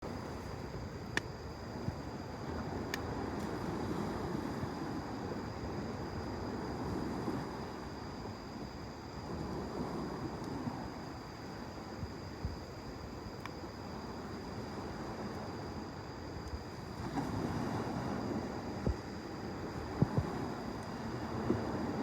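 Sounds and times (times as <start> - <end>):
waves washing in and out: 0.0 - 22.0.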